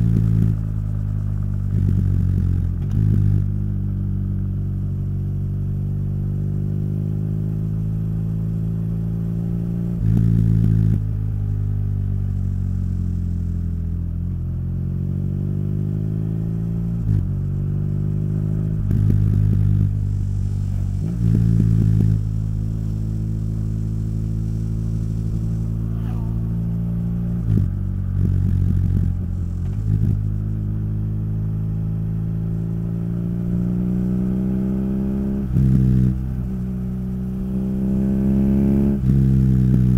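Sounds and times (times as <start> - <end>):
motorcycle engine on the move: 0.0 - 39.9.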